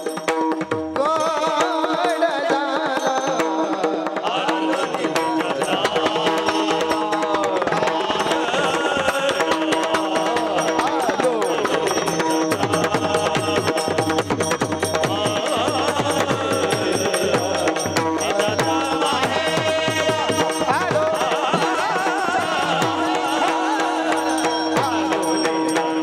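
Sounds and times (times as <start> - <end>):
drums and rapid percussion: 0.0 - 26.0
person singing devotional song: 0.0 - 26.0.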